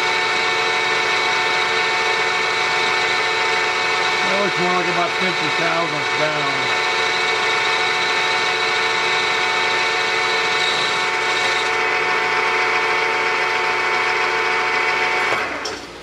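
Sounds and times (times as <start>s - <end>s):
milling machine cutting metal: 0.0s - 13.0s
machine running hum: 0.0s - 15.6s.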